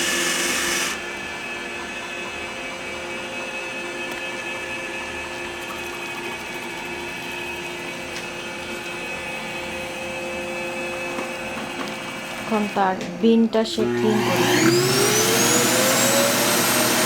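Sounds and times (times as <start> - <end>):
vacuum motor whining hum: 0.0 - 17.0.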